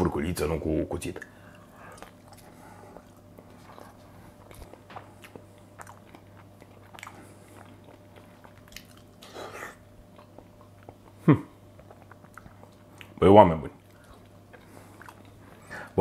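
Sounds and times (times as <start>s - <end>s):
person chewing food: 1.4s - 13.2s, 13.8s - 16.0s.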